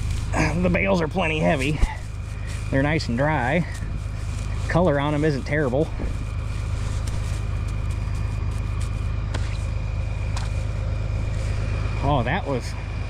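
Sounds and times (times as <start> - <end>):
thin high whine: 0.0 - 13.0
tractor engine rumbling: 0.0 - 13.0.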